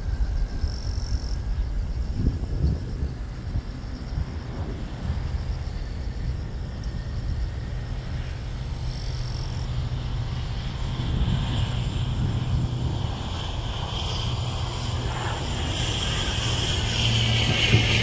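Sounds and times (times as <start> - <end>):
jet engine hiss: 0.0 - 18.0
jet engines at takeoff: 0.0 - 18.0.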